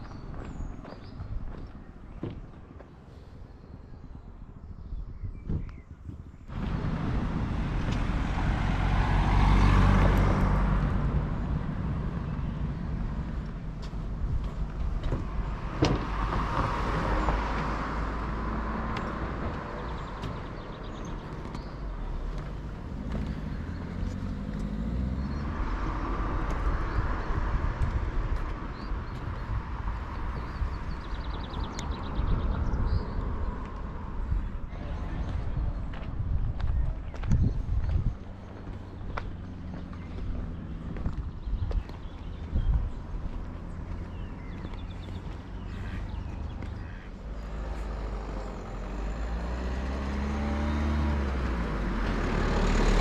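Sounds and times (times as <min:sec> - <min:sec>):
road vehicles passing: 0:05.7 - 0:53.0.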